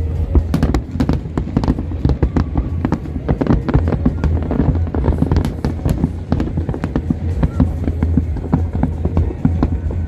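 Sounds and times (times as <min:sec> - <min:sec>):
fireworks bangs and crackles: 0:00.0 - 0:10.0
low rumble: 0:00.0 - 0:10.0.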